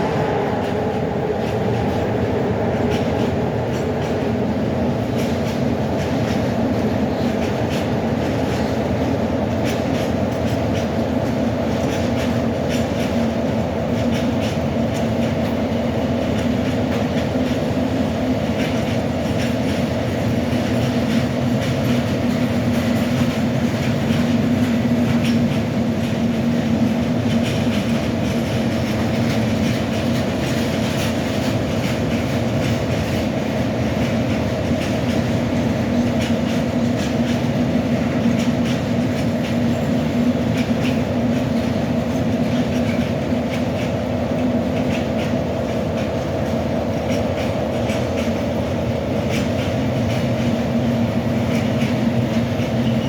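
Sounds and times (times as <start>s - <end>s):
train hum: 0.0s - 53.0s
train wheels clicking over rails: 0.0s - 53.0s.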